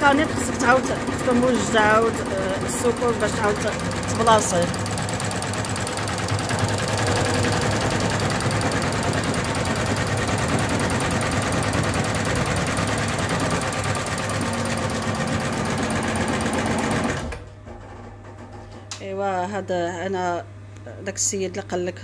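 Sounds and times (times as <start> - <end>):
embroidery machine clattering: 0.0 - 18.7.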